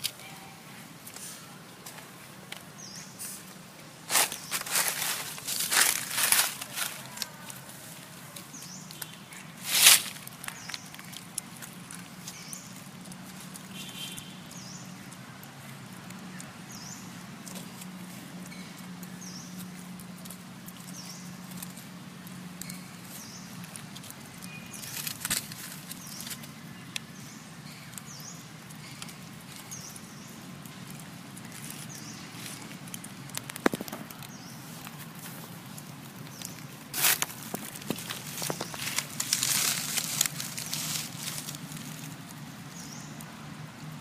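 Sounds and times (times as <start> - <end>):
dry leaves rustling and crackling: 0.0 - 44.0.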